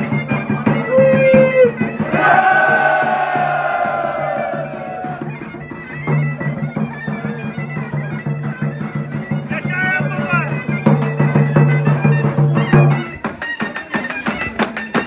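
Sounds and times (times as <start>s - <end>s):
sharp drum beats: 0.0s - 15.0s
wind instrument melody: 0.0s - 15.0s.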